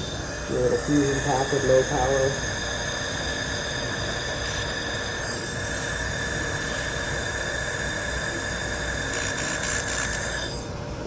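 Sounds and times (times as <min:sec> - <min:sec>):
high-pitched whining tones: 0:00.0 - 0:10.8
laser welder machine hum and hiss: 0:00.0 - 0:11.0.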